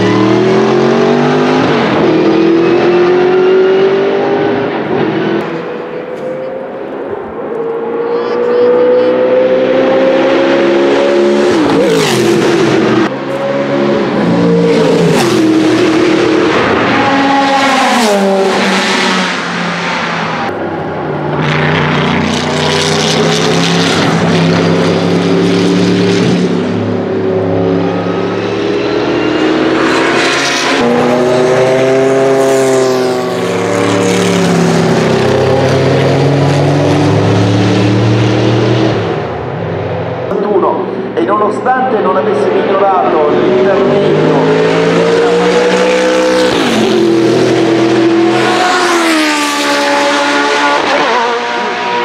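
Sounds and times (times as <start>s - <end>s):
racing car engine passing: 0.0s - 52.0s.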